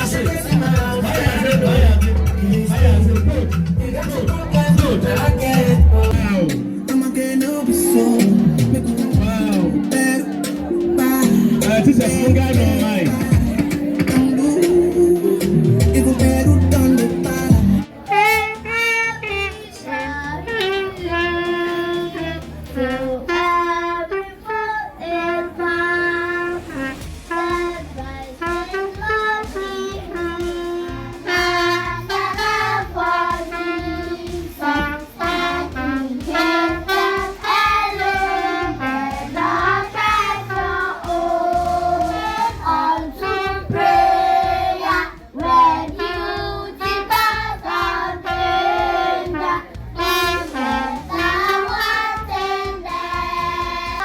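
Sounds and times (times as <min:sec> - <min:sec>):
musical accompaniment with beat: 0:00.0 - 0:54.0
children singing: 0:05.1 - 0:54.0.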